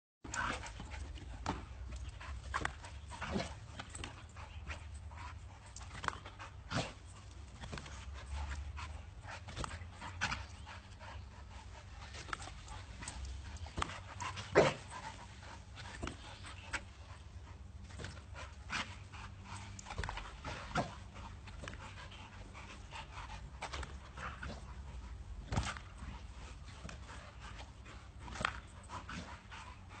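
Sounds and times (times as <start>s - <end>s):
dog panting: 0.3s - 30.0s.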